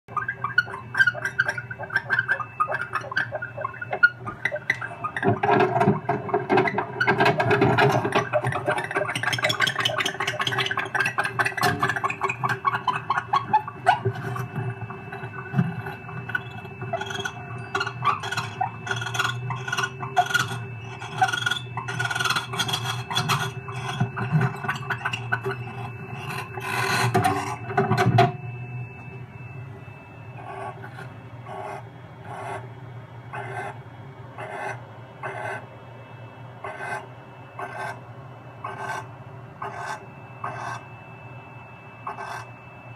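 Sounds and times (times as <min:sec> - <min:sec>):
owls rasping and clicking: 0:00.1 - 0:28.3, 0:30.4 - 0:32.6, 0:33.3 - 0:33.8, 0:34.4 - 0:35.6, 0:36.6 - 0:38.0, 0:38.6 - 0:40.9, 0:42.0 - 0:42.5
faint steady hum: 0:00.1 - 0:42.9.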